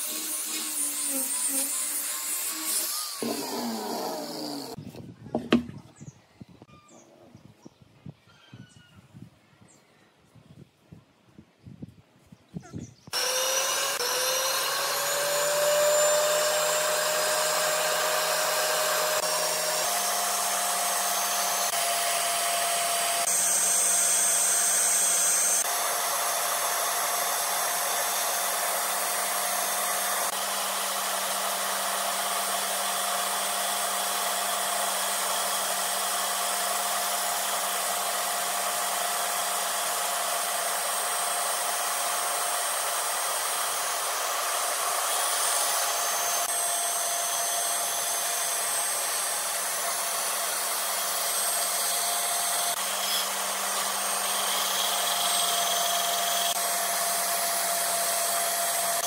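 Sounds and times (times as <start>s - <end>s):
saw blade cutting wood: 0.0s - 4.8s, 13.1s - 59.0s
band saw motor whine: 2.7s - 4.8s, 13.2s - 59.0s.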